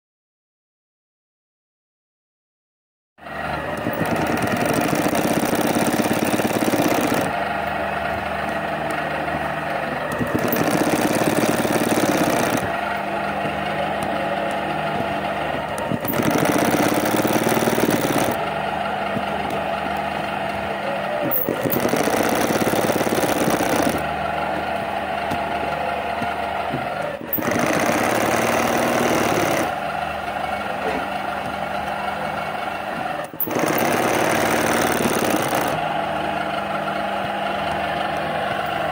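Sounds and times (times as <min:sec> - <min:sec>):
sewing machine stitching: 0:03.3 - 0:38.9.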